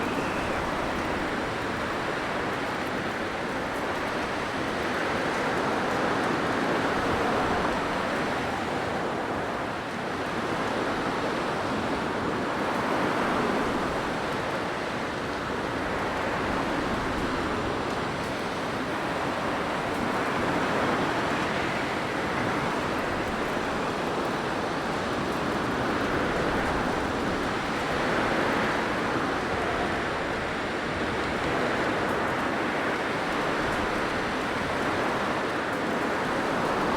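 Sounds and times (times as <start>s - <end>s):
blizzard wind blowing: 0.0s - 36.9s.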